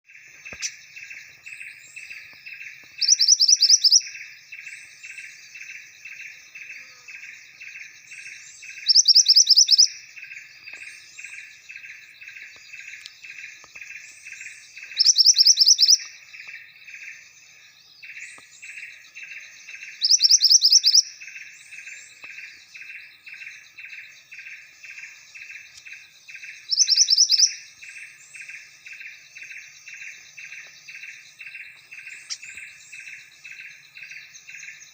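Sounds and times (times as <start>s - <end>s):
pulsing insect-like chirp: 0.1s - 34.9s
songbird trilling: 0.1s - 34.9s.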